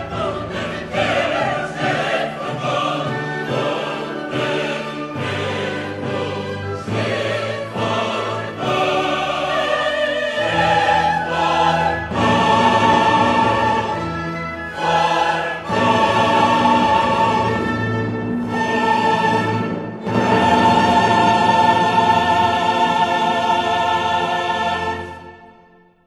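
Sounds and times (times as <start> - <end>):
choral singing: 0.0 - 25.8
orchestra playing: 0.0 - 25.9.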